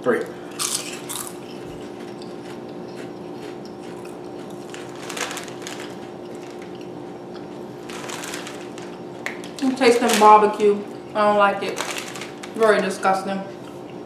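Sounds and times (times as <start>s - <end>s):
steady low hum: 0.0s - 14.0s
chewing potato chips: 0.5s - 12.9s.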